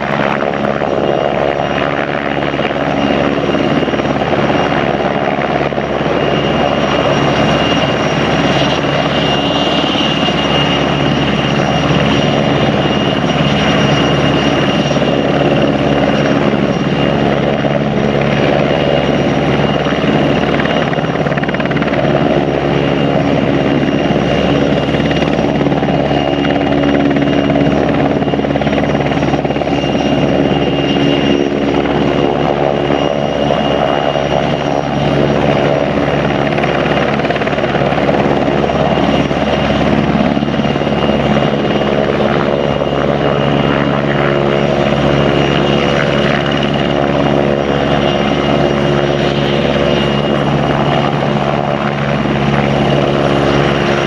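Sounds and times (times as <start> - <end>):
helicopter hovering drone: 0.0 - 54.0
high turbine whine: 0.0 - 54.0.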